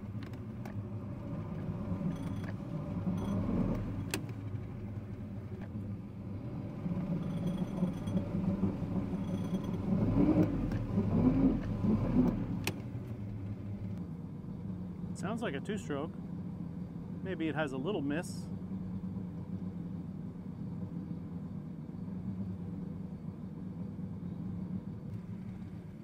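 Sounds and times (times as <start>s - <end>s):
outboard engine running: 0.0s - 26.0s.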